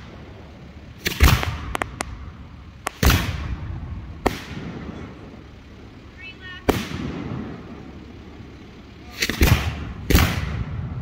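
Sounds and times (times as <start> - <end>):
firework shells booming and cracking: 0.0 - 5.8, 6.6 - 11.0.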